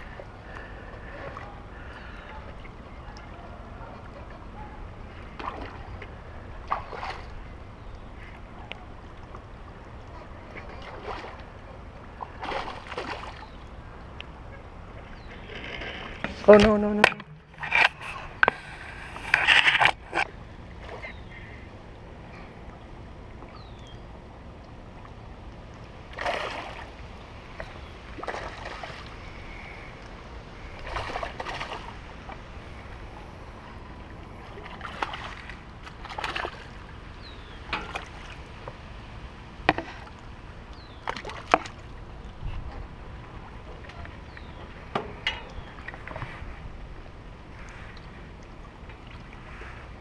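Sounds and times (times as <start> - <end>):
low outdoor background: 0.0 - 50.0
water sloshing and splashing: 0.0 - 50.0.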